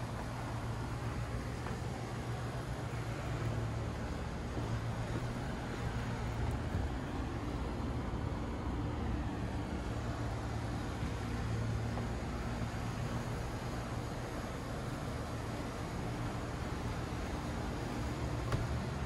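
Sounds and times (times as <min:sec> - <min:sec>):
constant low hum: 0:00.0 - 0:19.0
even wash of noise: 0:00.0 - 0:19.0.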